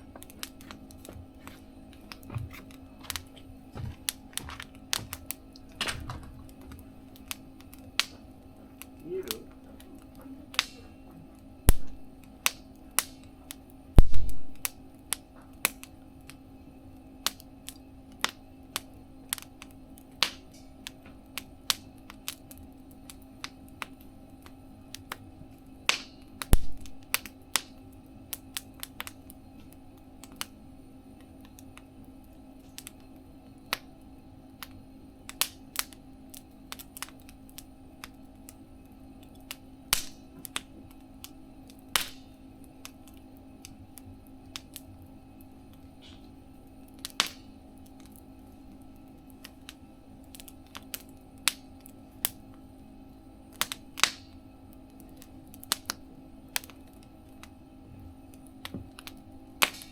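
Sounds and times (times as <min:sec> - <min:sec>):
campfire crackling and popping: 0:00.0 - 0:59.9
faint steady hum: 0:00.0 - 0:59.9.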